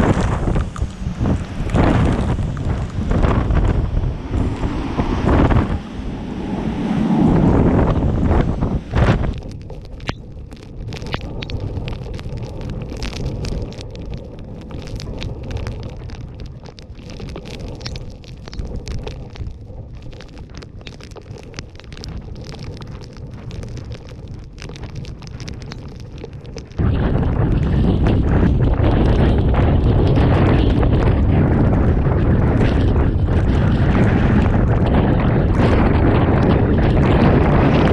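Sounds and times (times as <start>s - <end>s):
low wind rumble: 0.0s - 37.9s
rain striking microphone: 0.0s - 37.9s
wind buffeting microphone: 0.0s - 37.9s.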